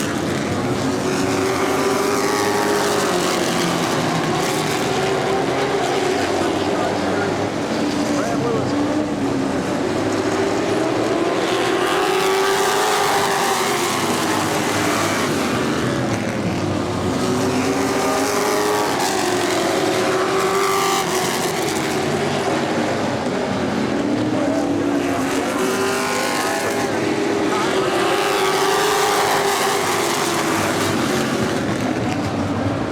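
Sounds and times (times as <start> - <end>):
race car engines revving: 0.0 - 32.9.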